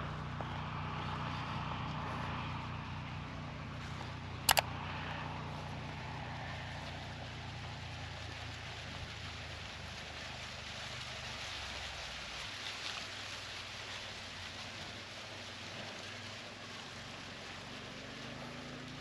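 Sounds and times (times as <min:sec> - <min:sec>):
wind rustling dry cornstalks: 0:00.0 - 0:19.0.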